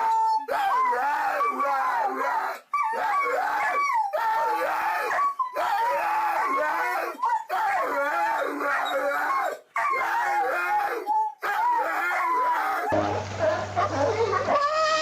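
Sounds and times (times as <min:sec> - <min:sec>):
dog howling: 0:00.0 - 0:15.0.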